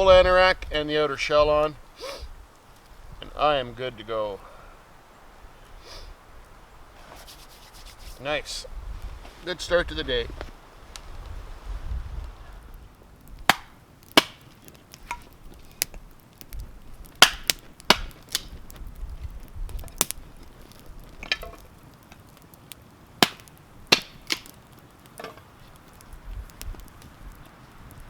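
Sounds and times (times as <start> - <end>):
firewood cracking: 0.0 - 28.0.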